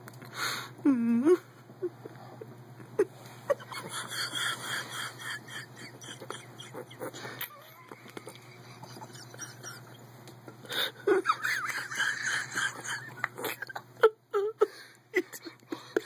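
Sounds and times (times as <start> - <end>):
stifled wheezy giggling: 1.8 - 16.0.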